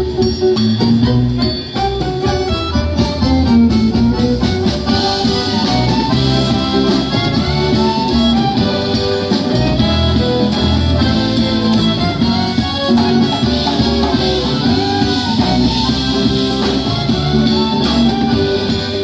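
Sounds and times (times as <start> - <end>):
instrumental music: 0.0 - 19.0.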